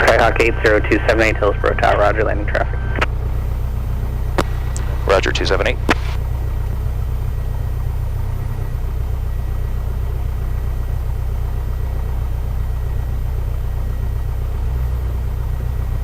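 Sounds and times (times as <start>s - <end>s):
propeller plane engine idling: 0.0s - 16.0s.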